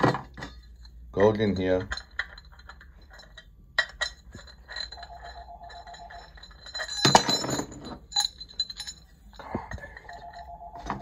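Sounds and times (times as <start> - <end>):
metal clinking and scraping: 0.0 - 11.0
metal rattling scrape: 1.6 - 10.5.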